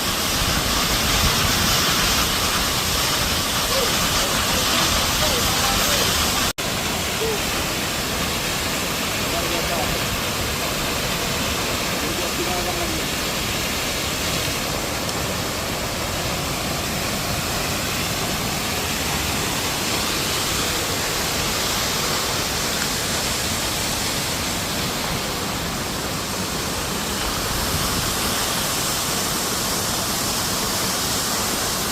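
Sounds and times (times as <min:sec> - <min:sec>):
waterfall pouring: 0:00.0 - 0:31.9.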